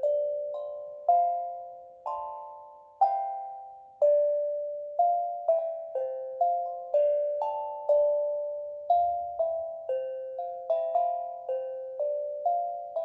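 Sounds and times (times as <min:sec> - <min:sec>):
steel tongue drum notes: 0:00.0 - 0:13.0.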